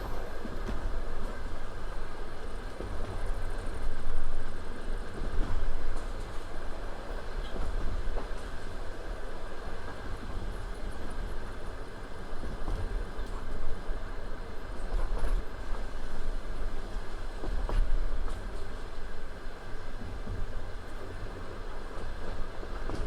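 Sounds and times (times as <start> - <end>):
wheels clattering on rails: 0.0 - 19.0, 20.0 - 23.0
train carriage rumbling: 0.0 - 23.0.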